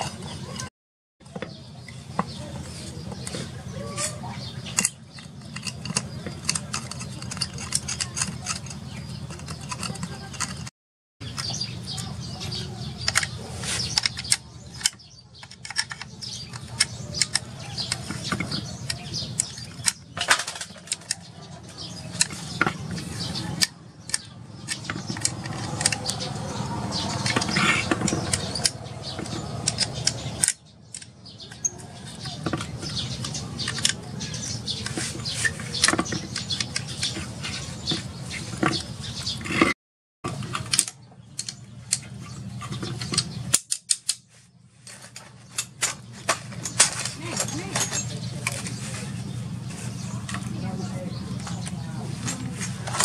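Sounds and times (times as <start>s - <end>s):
spanner clicking and scraping on bolts: 0.0s - 53.0s.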